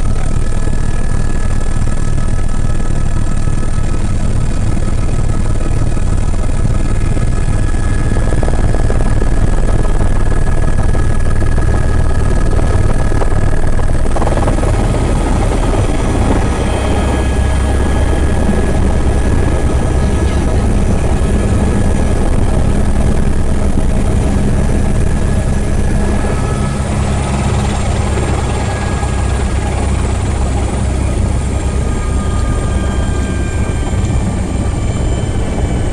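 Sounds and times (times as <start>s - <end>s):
helicopter in flight: 0.0s - 35.9s.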